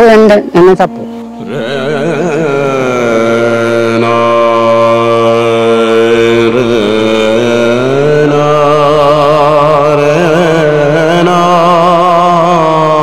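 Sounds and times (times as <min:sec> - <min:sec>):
man singing long wavering notes: 0:01.4 - 0:13.0.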